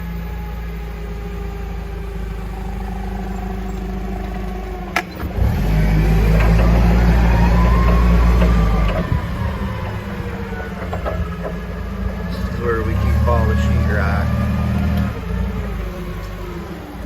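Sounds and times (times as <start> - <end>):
rising engine whine: 0.0 - 17.0
vehicle engine accelerating: 0.0 - 17.0.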